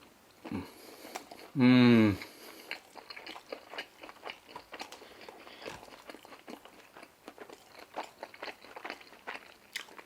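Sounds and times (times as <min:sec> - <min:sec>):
person chewing crunchy food: 0:00.4 - 0:10.0.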